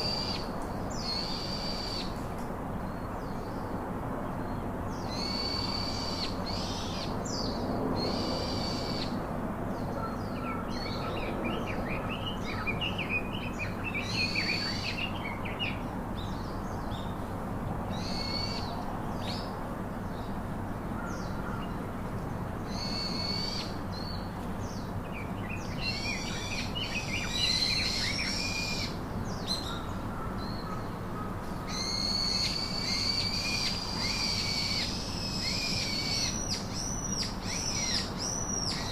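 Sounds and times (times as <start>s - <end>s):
birds singing: 0.0s - 38.9s
birds twittering: 0.0s - 38.9s.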